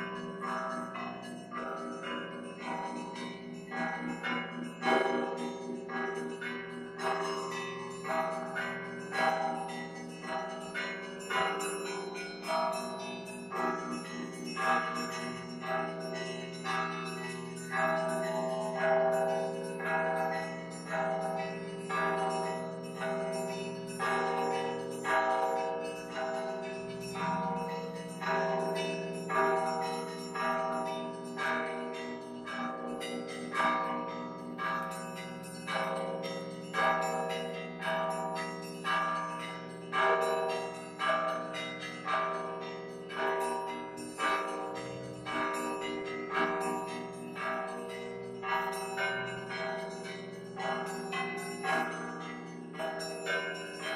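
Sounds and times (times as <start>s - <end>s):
church bells ringing: 0.0s - 53.9s
hum of large bells: 0.0s - 53.9s.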